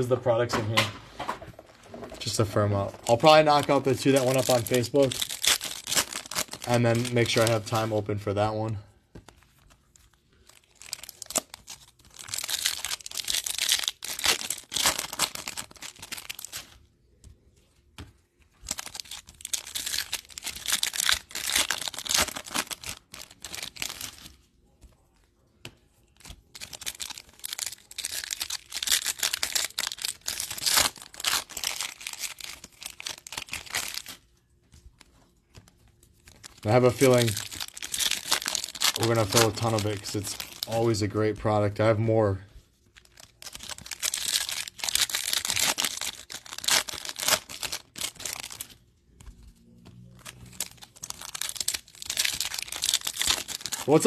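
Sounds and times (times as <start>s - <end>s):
card pack wrappers tearing and crinkling: 2.2s - 8.7s, 9.5s - 17.1s, 18.5s - 24.7s, 26.0s - 41.9s, 42.8s - 48.8s, 49.9s - 54.0s.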